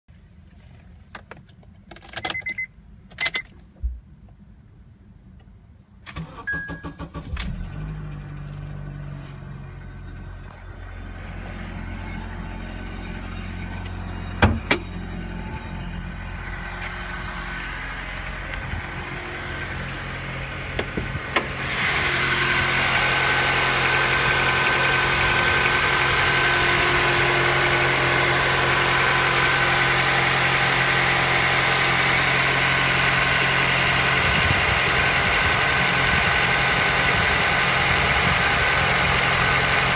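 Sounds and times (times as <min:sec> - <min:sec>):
car engine starting and idling: 0:05.3 - 0:39.9.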